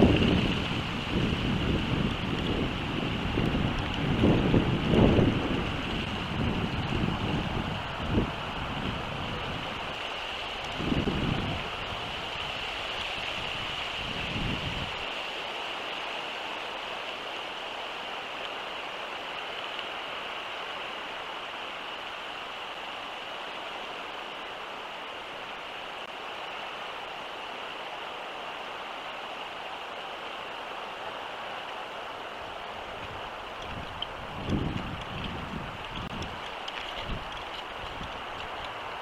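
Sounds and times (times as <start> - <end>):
steady outdoor hiss: 0.0 - 39.0.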